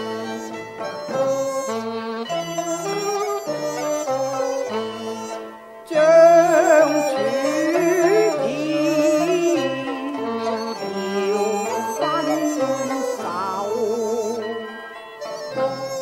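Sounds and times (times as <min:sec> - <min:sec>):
instrumental ensemble playing melody: 0:00.0 - 0:16.0.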